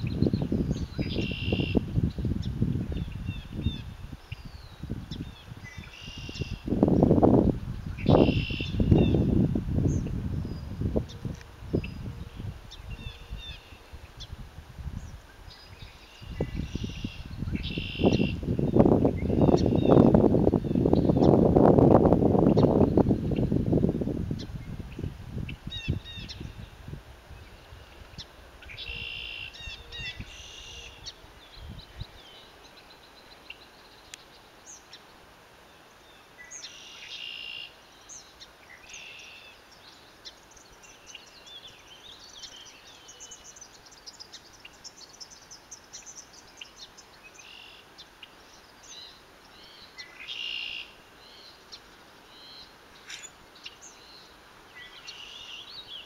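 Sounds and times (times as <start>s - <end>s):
faint background hiss: 0.0s - 56.0s
small birds singing and chirping: 0.0s - 56.0s.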